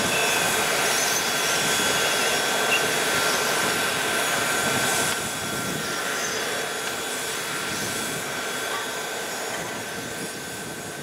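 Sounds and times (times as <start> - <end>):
jet whine and rush: 0.0 - 11.0.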